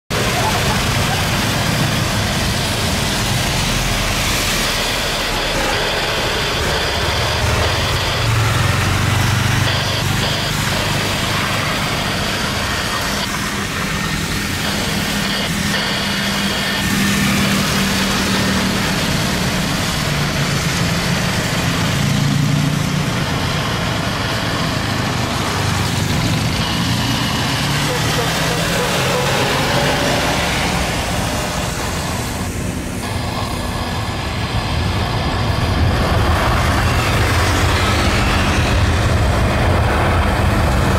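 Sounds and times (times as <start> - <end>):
jet engines rushing: 0.1 - 40.9
faint high whine: 0.2 - 40.9.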